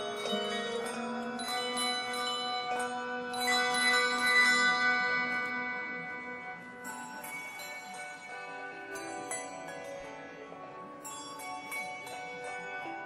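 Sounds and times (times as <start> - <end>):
handbells ringing: 0.0 - 13.0.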